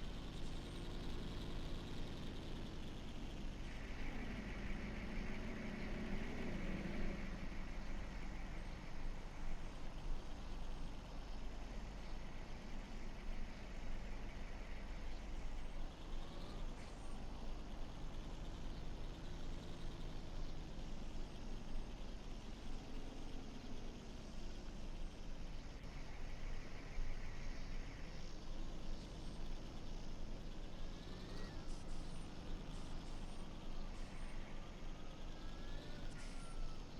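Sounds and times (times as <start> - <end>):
truck engines passing: 0.0 - 36.9.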